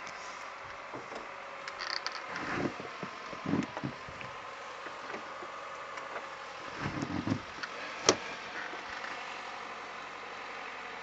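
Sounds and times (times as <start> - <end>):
backhoe engine running: 0.0 - 11.0.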